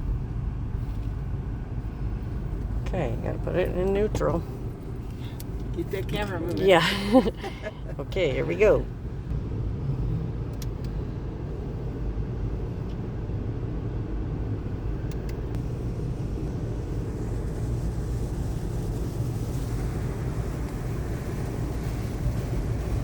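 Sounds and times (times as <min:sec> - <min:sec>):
car wash rumble inside car: 0:00.0 - 0:23.0.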